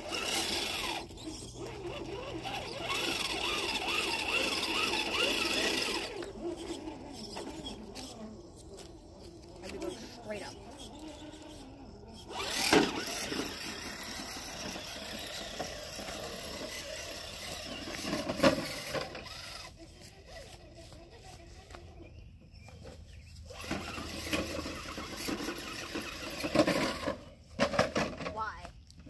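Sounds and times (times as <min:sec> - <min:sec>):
rc truck motor whirring: 0:00.0 - 0:28.4.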